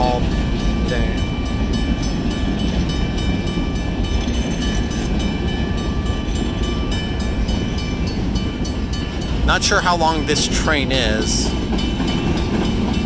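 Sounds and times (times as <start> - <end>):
crossing bells ringing: 0.0 - 13.0
train wheels rumbling on rails: 0.0 - 13.0.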